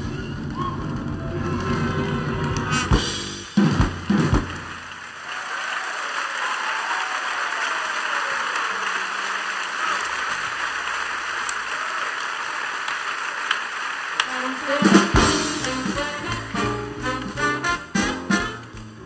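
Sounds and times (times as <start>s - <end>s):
audience applauding: 0.2s - 19.0s.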